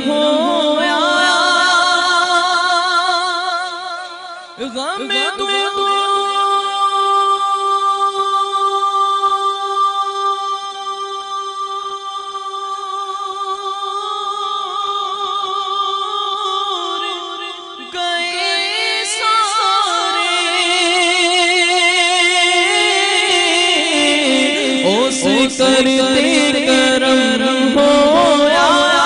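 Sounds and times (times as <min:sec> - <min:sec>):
person singing without words: 0:00.0 - 0:29.0.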